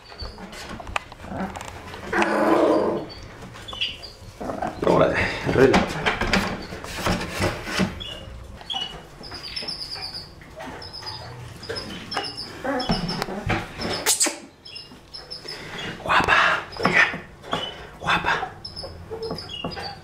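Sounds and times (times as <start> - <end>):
puppies squeaking: 0.0 - 1.4, 2.0 - 5.1, 7.9 - 20.0.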